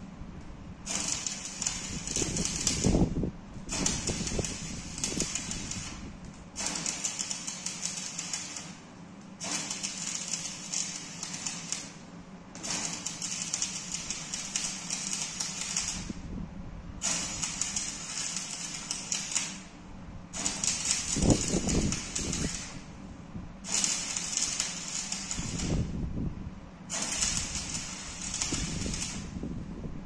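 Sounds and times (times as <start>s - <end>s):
welding arc crackling: 0.8s - 8.8s, 9.4s - 16.2s, 17.0s - 19.7s, 20.3s - 22.9s, 23.6s - 26.0s, 26.9s - 29.4s.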